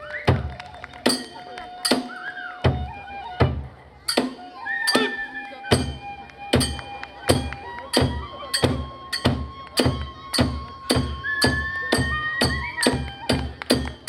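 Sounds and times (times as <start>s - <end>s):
flute holding long notes: 0.0s - 14.0s
drum and hand cymbals beat: 1.1s - 14.0s.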